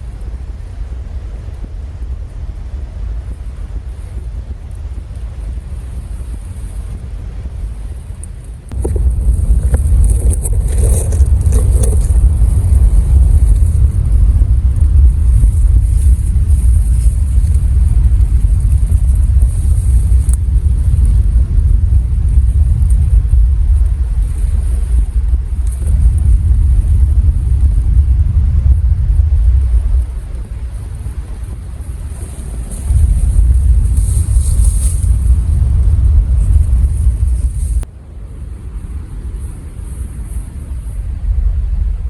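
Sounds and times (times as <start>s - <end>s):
heavy low rumble: 0.0s - 42.0s.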